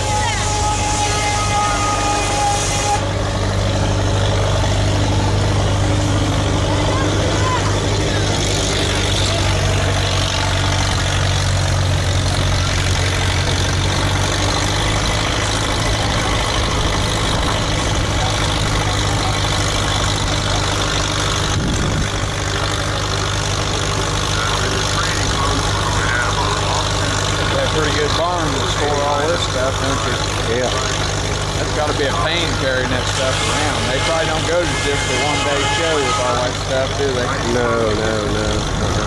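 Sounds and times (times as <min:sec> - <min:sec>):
steam engine mechanical drone: 0:00.0 - 0:39.0.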